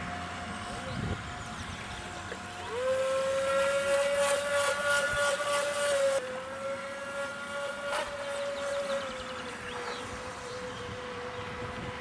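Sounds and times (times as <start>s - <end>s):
electric motor high whine: 0.0s - 12.0s.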